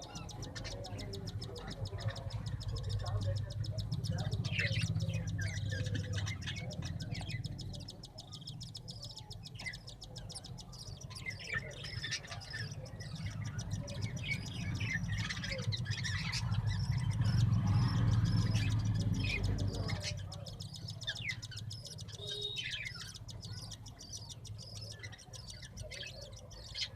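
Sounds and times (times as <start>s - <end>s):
small cage birds chirping: 0.0s - 26.9s.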